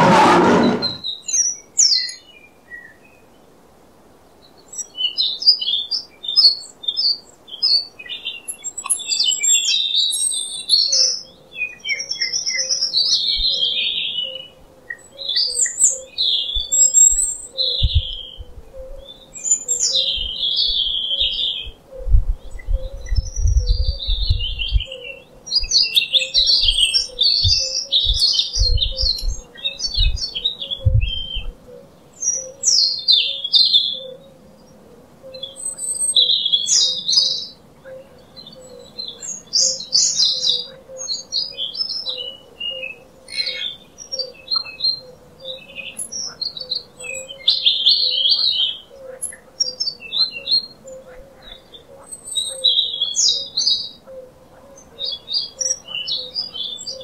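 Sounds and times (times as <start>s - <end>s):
songbirds chirping and singing: 0.0s - 3.4s, 4.3s - 57.0s.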